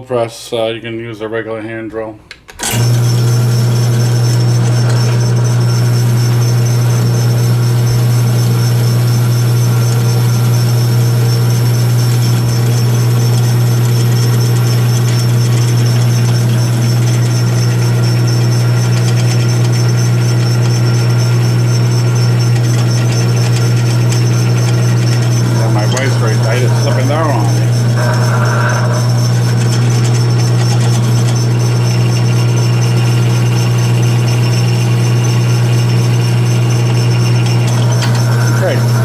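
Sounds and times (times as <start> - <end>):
drill press motor humming: 2.6 - 39.0.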